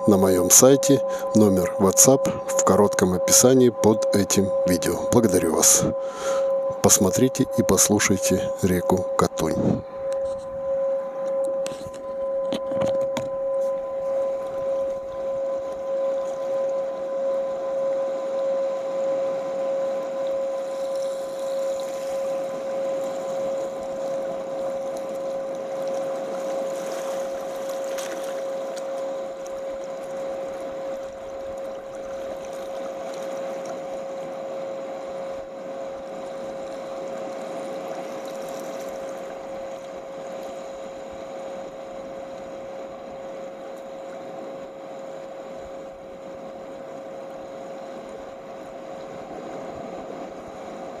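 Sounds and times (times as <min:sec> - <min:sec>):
steady ringing tone: 0:00.0 - 0:51.0.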